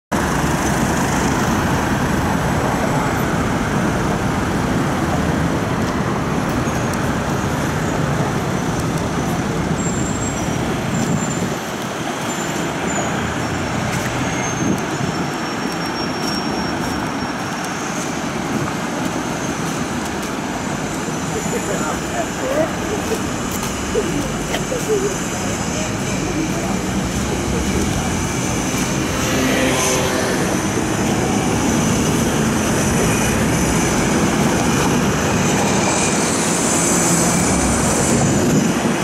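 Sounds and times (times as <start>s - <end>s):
road traffic passing: 0.1s - 39.0s.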